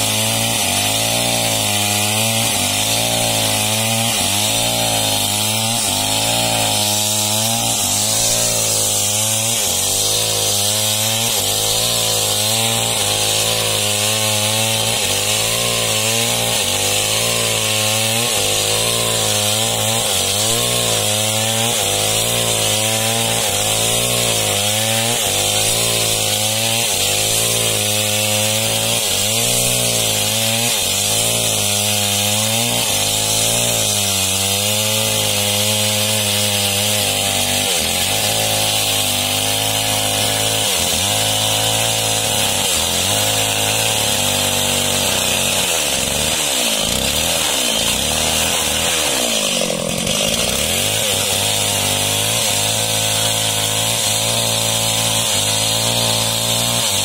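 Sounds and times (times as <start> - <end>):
chainsaw cutting a log: 0.0 - 57.0.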